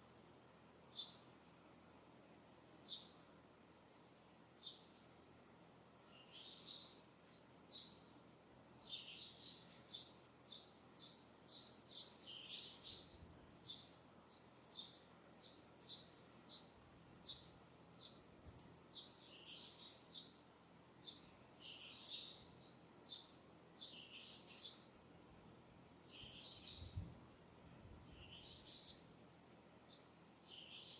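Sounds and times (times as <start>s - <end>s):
small songbirds chirping: 0.6s - 1.5s, 2.6s - 30.9s.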